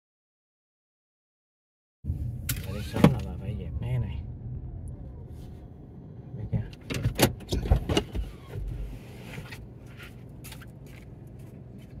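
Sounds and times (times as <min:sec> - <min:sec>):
car cabin rumble: 0:02.1 - 0:12.0.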